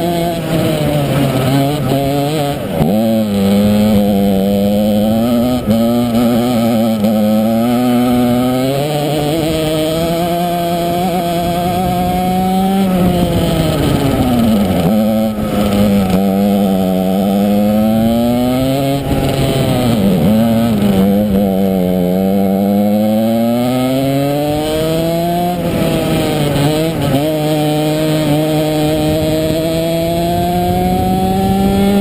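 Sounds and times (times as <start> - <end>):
kart engine revving: 0.0 - 32.0.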